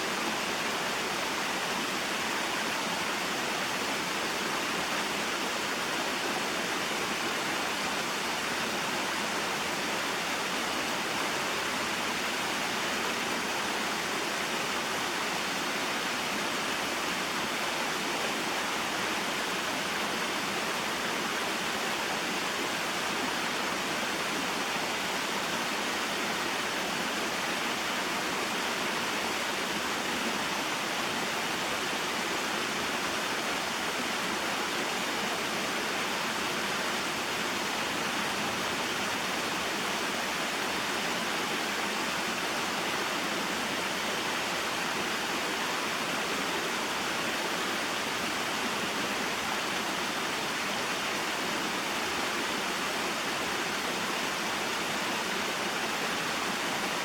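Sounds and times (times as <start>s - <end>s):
rushing water of waterfall: 0.0s - 57.0s.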